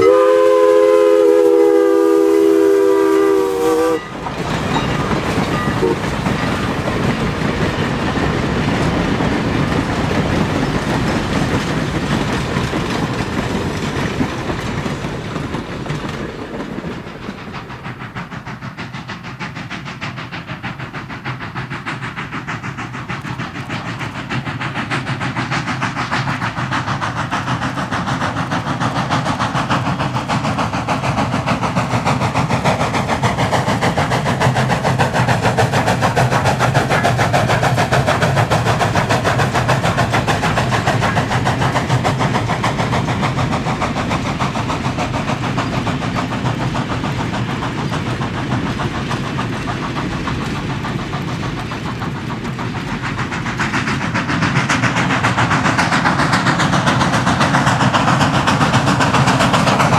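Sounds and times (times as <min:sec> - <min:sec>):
steam locomotive passing: 0:00.0 - 0:59.9
wheels clicking over rail joints: 0:00.8 - 0:59.9.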